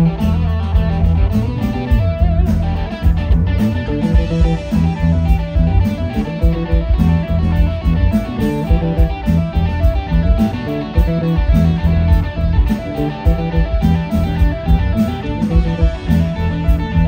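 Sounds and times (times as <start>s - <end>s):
drums and cymbals: 0.0s - 17.0s
electric bass: 0.0s - 17.0s
electric guitar: 0.0s - 17.0s.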